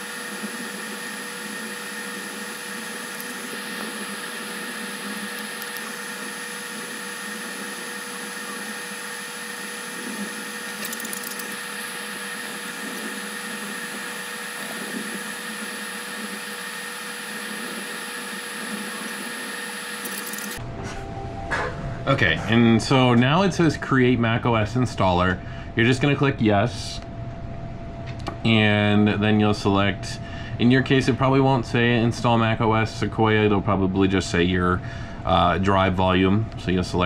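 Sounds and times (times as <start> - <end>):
mechanical whirring hum: 0.0 - 37.0
steady tones: 0.9 - 33.8.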